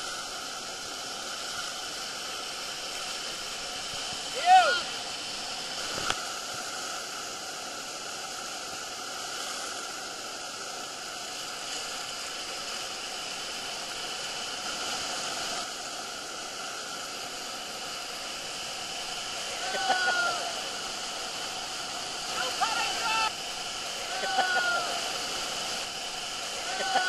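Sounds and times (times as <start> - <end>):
whitewater rushing in river rapid: 0.0 - 27.0.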